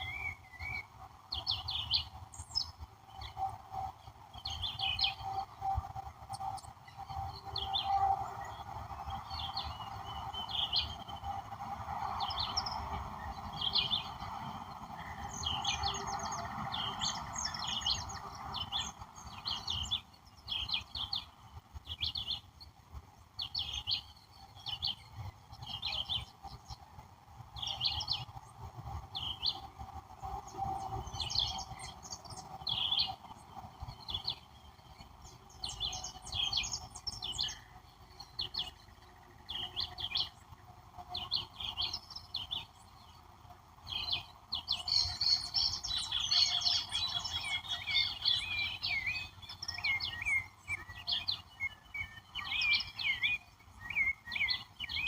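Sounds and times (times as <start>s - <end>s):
birds chirping: 0.0s - 55.0s
outdoor background hum: 0.0s - 55.0s.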